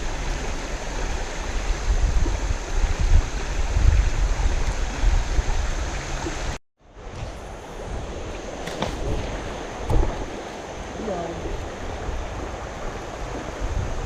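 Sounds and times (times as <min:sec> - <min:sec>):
river water rushing: 0:00.0 - 0:14.0
wind buffeting microphone: 0:00.0 - 0:14.0.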